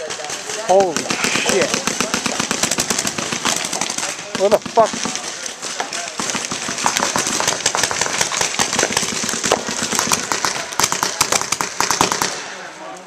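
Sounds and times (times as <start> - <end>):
rapid paintball marker shots: 0.0 - 12.6.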